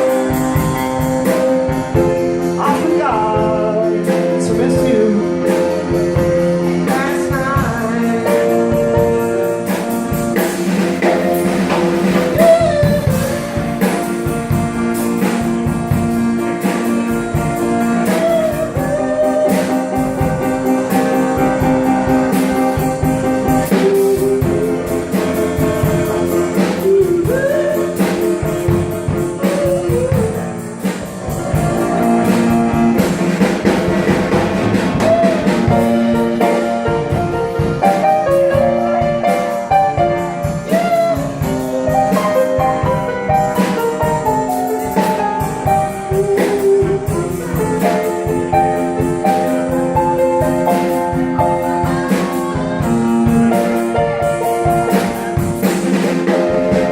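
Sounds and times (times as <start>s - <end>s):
lead guitar bending notes: 0.0s - 56.9s
live band playing: 0.0s - 56.9s.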